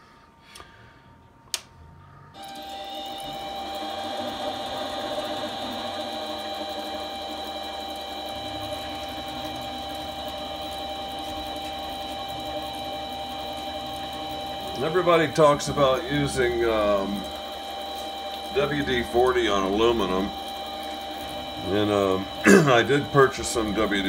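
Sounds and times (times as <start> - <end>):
high gear whine: 2.0 - 24.0
lathe motor hum: 2.4 - 24.0.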